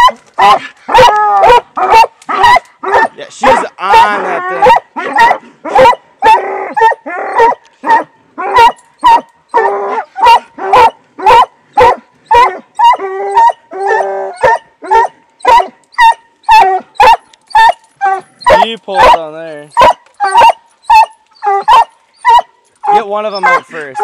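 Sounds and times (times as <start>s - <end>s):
dog barking loudly: 0.0s - 17.8s, 18.4s - 24.0s.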